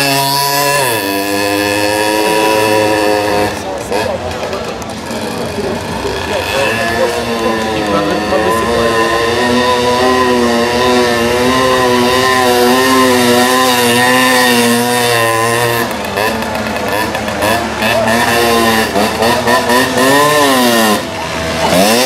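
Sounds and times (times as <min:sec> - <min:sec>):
moped engine revving: 0:00.0 - 0:22.0.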